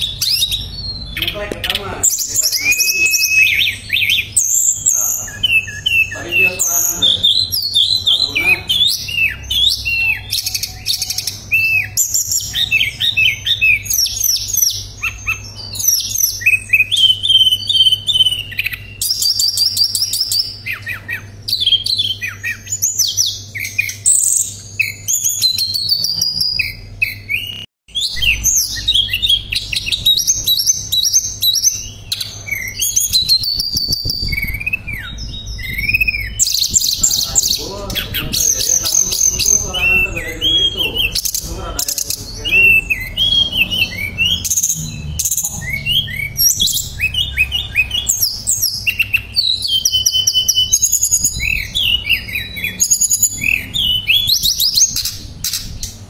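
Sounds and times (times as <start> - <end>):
bird singing whistled trills: 0.0 - 56.0.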